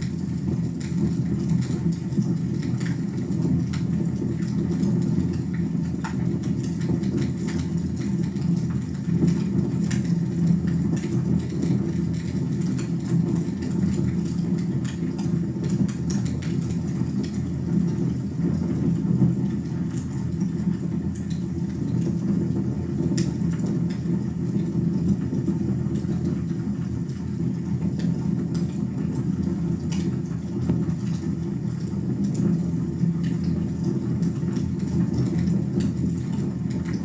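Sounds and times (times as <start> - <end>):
rumble of flames: 0.0 - 37.0.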